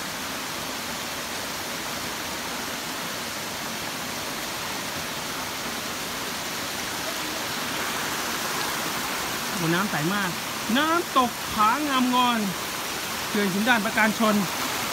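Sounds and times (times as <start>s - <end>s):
stream water rushing over rocks: 0.0s - 14.9s.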